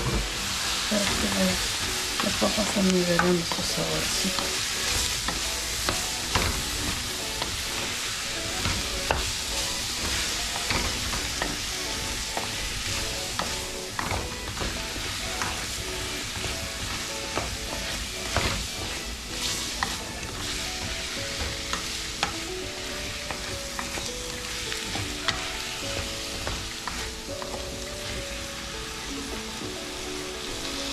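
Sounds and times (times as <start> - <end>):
wooden spoon scraping pot: 0.0 - 28.2
frying sizzle: 0.0 - 30.9.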